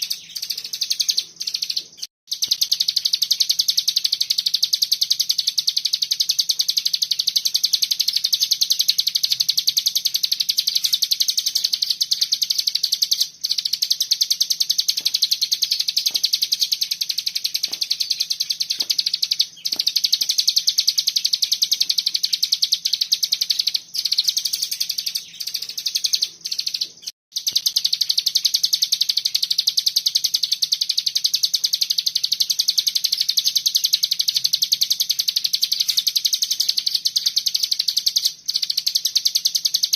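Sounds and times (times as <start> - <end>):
songbird high-pitched trill: 0.0 - 39.9.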